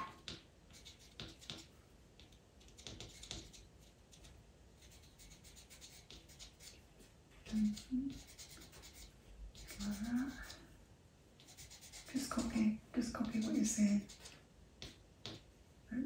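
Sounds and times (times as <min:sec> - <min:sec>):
pencil scratching on paper: 0:00.0 - 0:10.8, 0:11.4 - 0:15.4.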